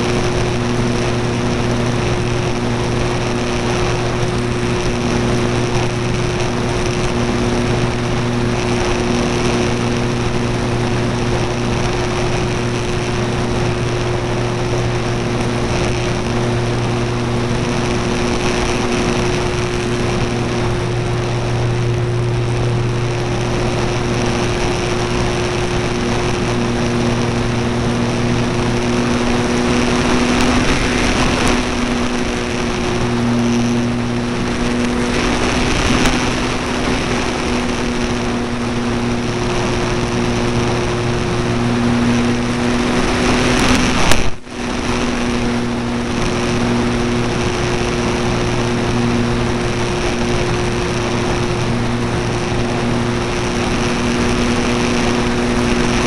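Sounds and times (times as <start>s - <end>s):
electric propeller buzzing hum: 0.0s - 56.0s
wind rushing over microphone: 0.0s - 56.0s.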